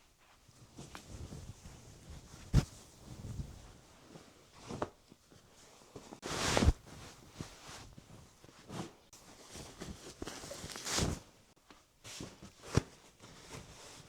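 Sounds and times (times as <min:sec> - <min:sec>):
bed sheets rustling: 0:00.1 - 0:14.0.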